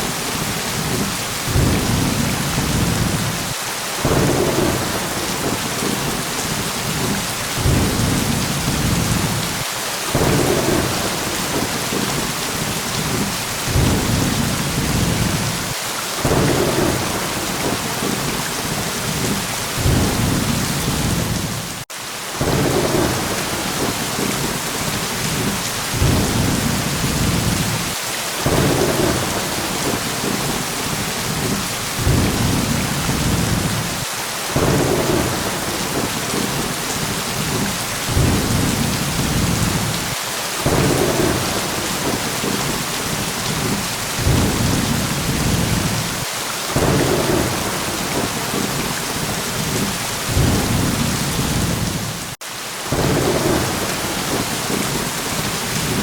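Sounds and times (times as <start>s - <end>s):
heavy rain: 0.0s - 56.0s
low thunder rumbles: 0.7s - 21.8s, 22.4s - 34.0s, 34.6s - 55.0s.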